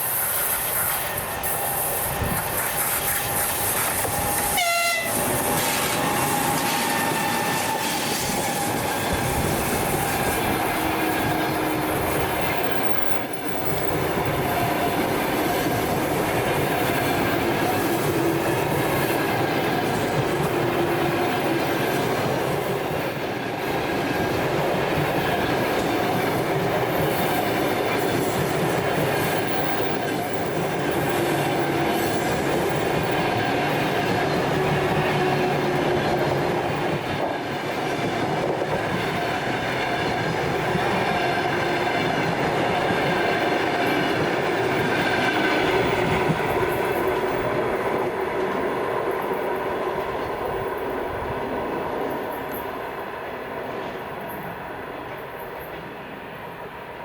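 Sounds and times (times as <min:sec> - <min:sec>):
train rolling past: 0:00.0 - 0:57.0.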